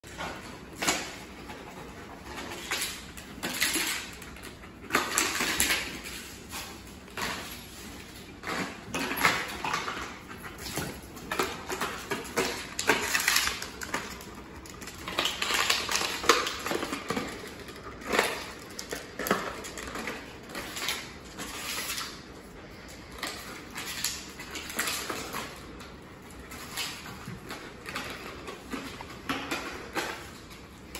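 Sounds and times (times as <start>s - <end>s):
dog claws scrabbling on tiles: 0.1s - 30.9s.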